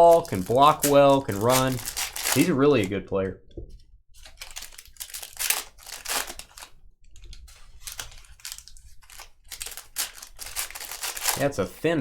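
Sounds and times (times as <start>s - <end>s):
wrapper crinkling and tearing: 0.0s - 2.9s, 4.2s - 11.7s.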